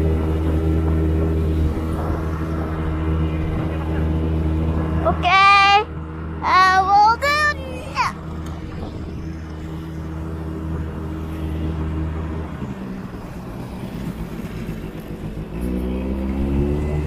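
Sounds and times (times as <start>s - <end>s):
quad bike engine revving: 0.0s - 17.0s.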